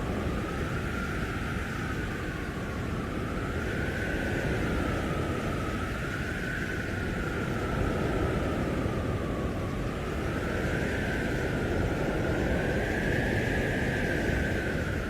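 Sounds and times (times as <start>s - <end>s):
blizzard wind howling: 0.0s - 15.0s.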